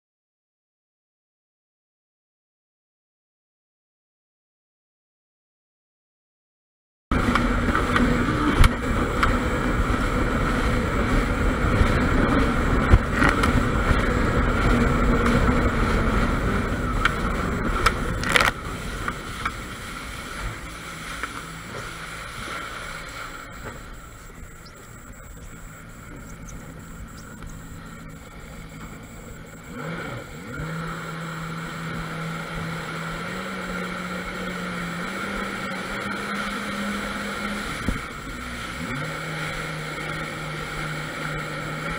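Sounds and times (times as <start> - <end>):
jet ski engine running: 7.1 - 41.9
water rushing against hull: 7.1 - 41.9.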